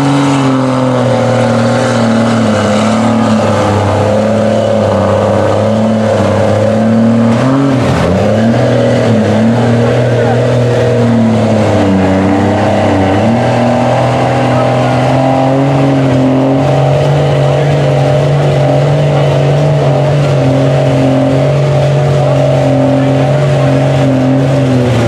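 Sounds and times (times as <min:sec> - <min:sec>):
tires churning through mud: 0:00.0 - 0:25.0
truck engine running hard: 0:00.0 - 0:25.0.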